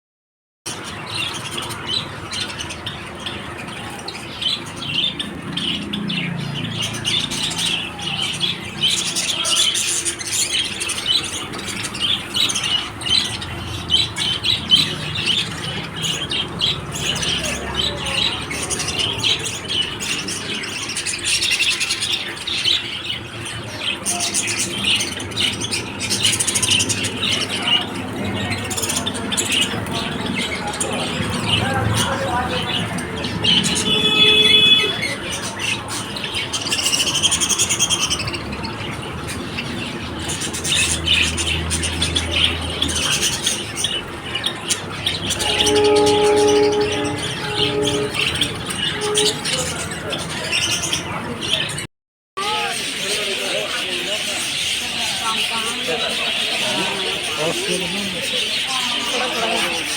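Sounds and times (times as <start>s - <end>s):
lovebirds chattering: 0.7s - 51.9s, 52.5s - 59.9s.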